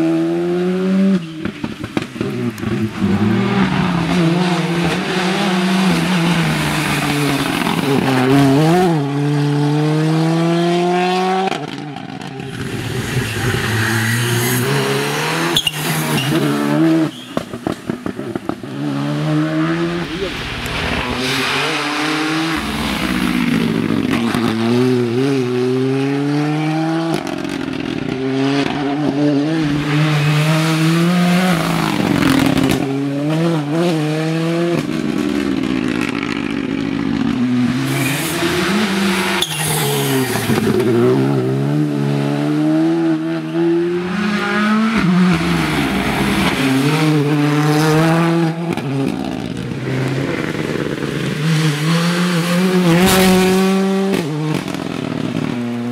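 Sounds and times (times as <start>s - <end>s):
rally car engine revving hard: 0.0s - 55.9s.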